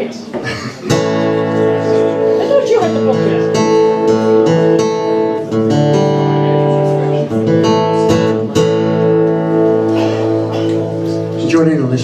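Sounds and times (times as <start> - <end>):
guitar strumming chords: 0.8 - 12.0.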